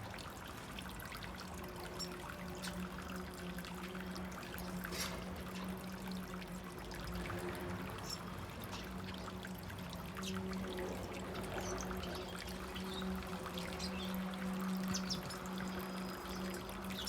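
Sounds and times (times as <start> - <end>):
water pouring and trickling: 0.0 - 17.0.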